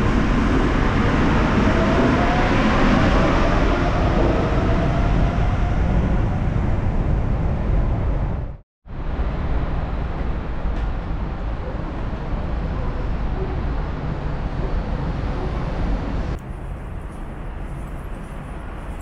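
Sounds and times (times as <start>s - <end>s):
outdoor vehicle noise rumble: 0.0s - 19.0s.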